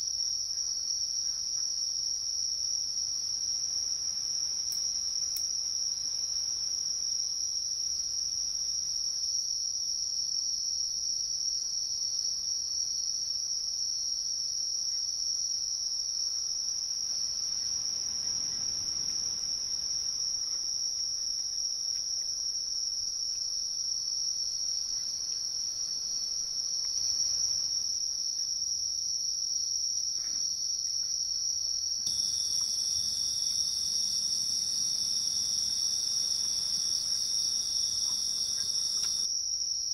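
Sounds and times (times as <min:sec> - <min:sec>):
night insects trilling: 0:00.1 - 0:09.7, 0:13.8 - 0:39.9.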